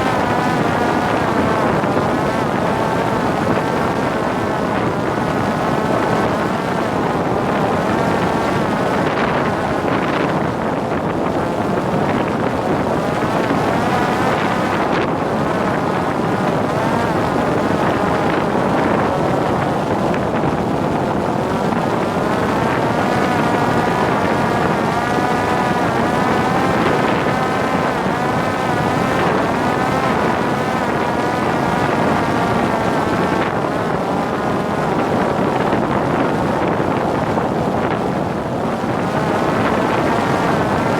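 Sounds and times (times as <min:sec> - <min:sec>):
drone motor and propeller whine: 0:00.0 - 0:40.9
wind rushing on microphone: 0:00.0 - 0:40.9.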